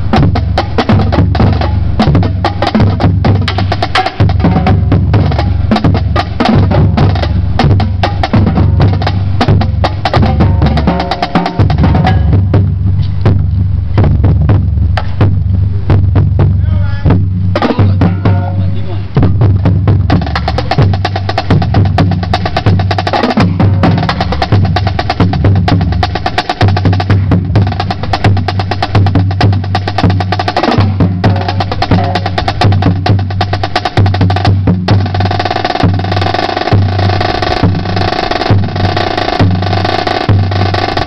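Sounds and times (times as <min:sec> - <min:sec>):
snare drum strokes and rolls: 0:00.0 - 0:18.4, 0:19.1 - 0:41.0
bass drum hits: 0:00.0 - 0:40.9.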